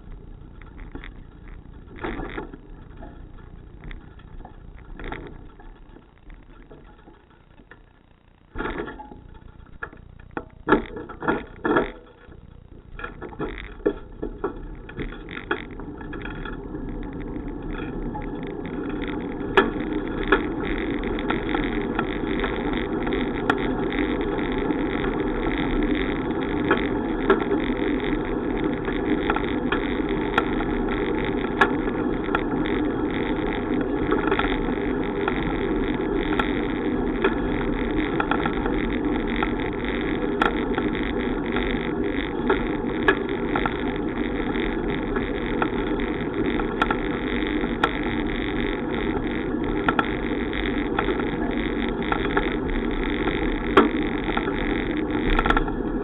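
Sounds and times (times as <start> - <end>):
bicycle clicks and rattles: 0.0 - 56.0
wind and road noise: 8.6 - 56.0.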